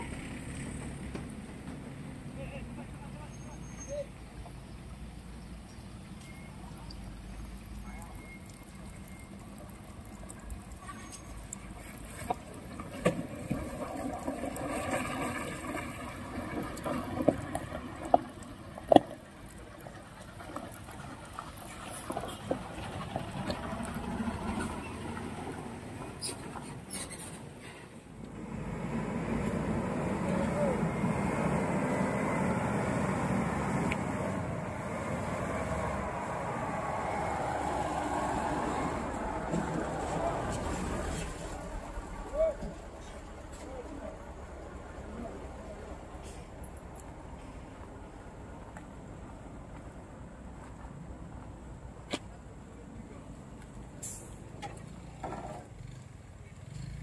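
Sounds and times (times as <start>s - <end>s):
truck engine under load: 0.0s - 3.0s, 6.3s - 57.0s.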